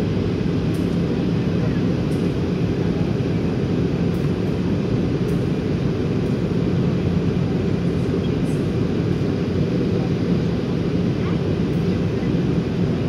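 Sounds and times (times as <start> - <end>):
jet engines and airflow: 0.0 - 13.0.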